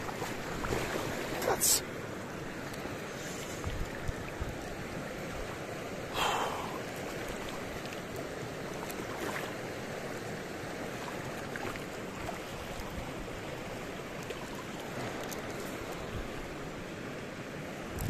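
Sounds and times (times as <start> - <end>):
water flowing over stones: 0.0 - 18.0.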